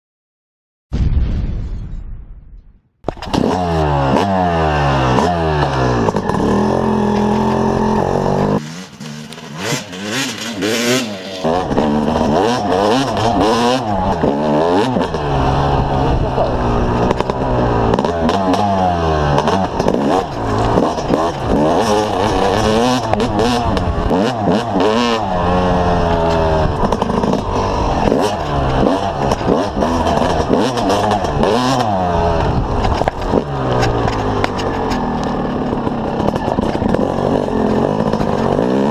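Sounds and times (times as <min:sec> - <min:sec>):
two-stroke motocross engine revving: 0:03.1 - 0:38.9.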